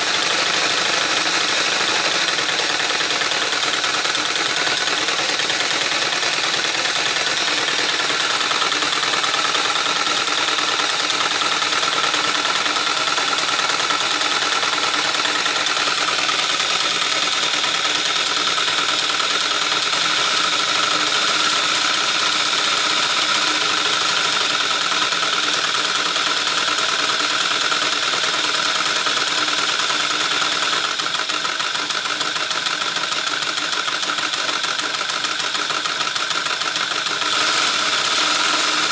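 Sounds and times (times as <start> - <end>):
toy engine model whirring: 0.0 - 38.9.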